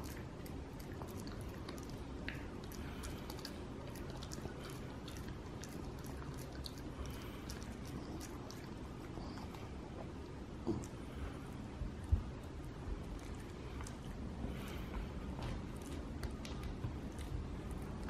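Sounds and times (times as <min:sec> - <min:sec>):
dog chewing with wet crunches: 0:00.0 - 0:18.0
low background noise: 0:00.0 - 0:18.0.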